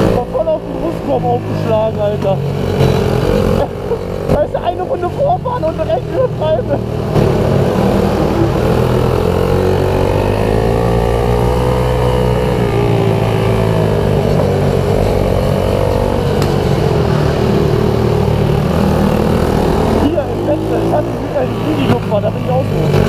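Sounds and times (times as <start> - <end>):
motorbike engine running hard: 0.0 - 23.0.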